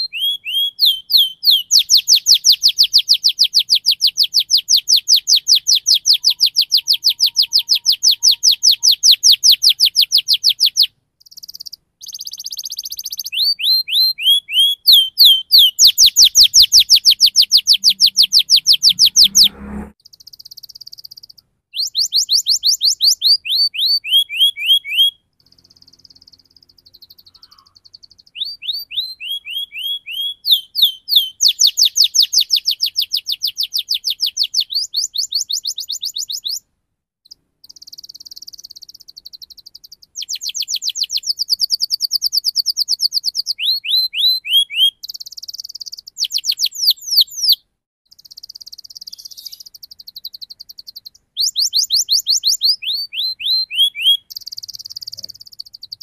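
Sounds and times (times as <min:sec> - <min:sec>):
canary singing: 0:00.0 - 0:36.7, 0:37.3 - 0:56.0.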